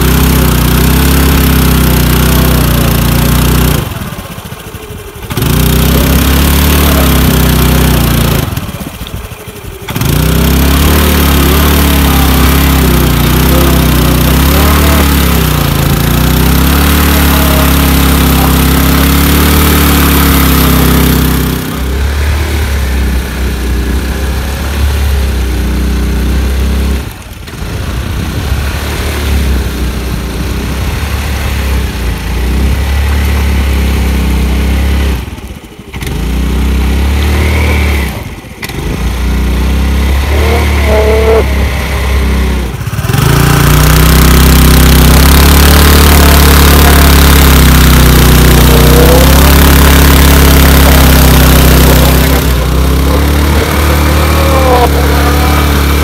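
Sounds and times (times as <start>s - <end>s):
scooter engine revving: 0.0s - 56.0s.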